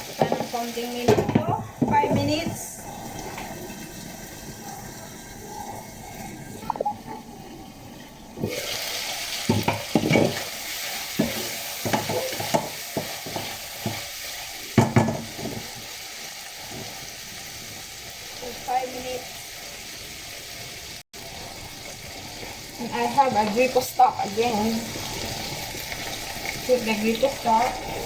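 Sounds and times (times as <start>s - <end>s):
chicken sizzling in a frying pan: 0.0s - 5.4s, 8.4s - 28.0s.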